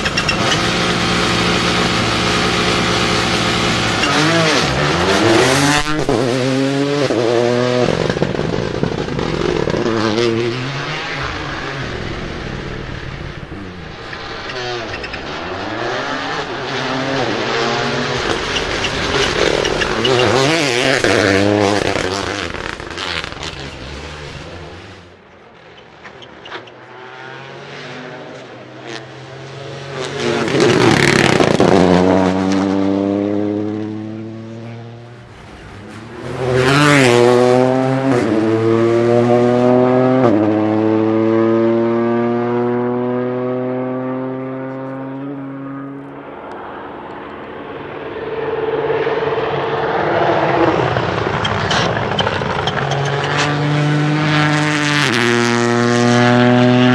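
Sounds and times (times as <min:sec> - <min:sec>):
rally car engine at full throttle: 0:00.0 - 0:56.9.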